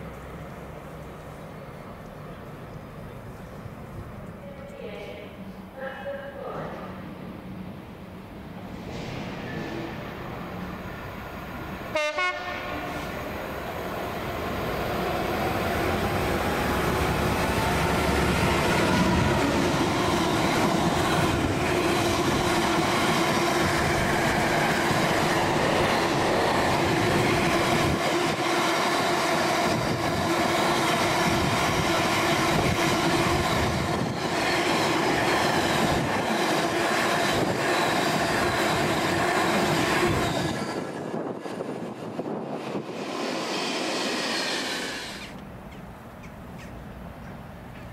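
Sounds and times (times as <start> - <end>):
train passing with hum and whine: 0.0 - 47.9.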